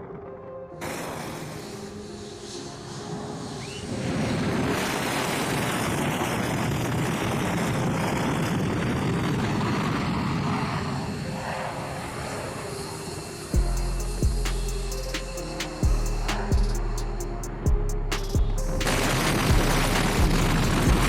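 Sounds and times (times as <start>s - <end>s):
aircraft engine roar: 0.8s - 17.6s.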